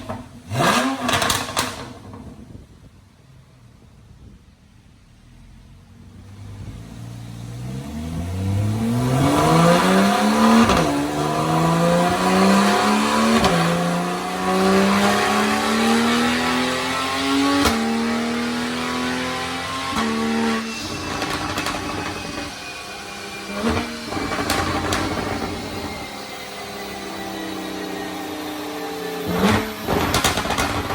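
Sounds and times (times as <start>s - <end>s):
car engine accelerating: 0.0s - 4.3s, 5.0s - 30.9s.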